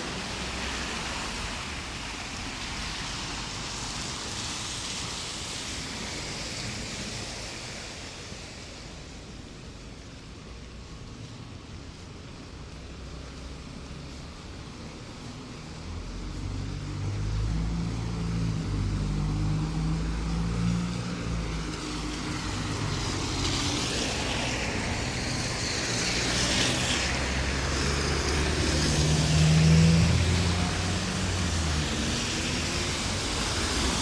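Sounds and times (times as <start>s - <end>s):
cars passing slowly: 0.0s - 34.0s.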